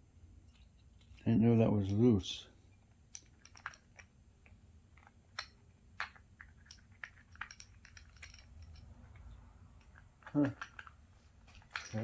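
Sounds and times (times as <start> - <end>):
metal parts clicking: 0.5 - 12.0.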